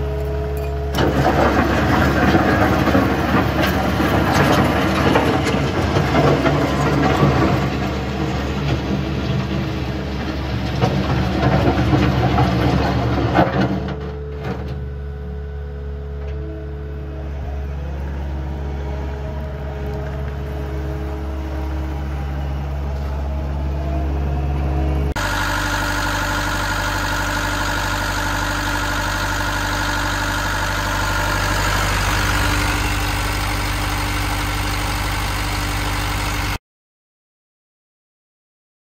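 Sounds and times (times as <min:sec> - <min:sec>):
diesel engine running: 0:00.0 - 0:36.6.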